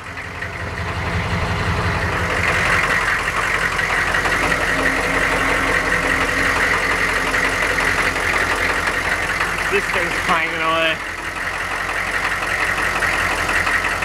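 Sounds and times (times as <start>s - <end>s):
diesel engine idling with rattle: 0.0s - 14.0s.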